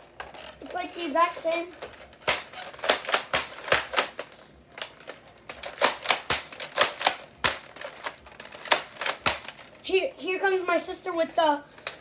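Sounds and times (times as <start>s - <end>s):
toy blasters clicking and knocking: 0.1s - 9.8s.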